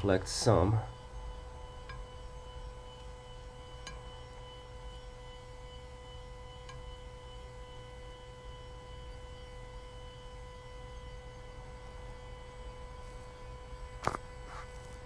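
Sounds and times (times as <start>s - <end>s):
electrical whine: 0.0s - 15.0s
low mains hum: 0.0s - 15.0s.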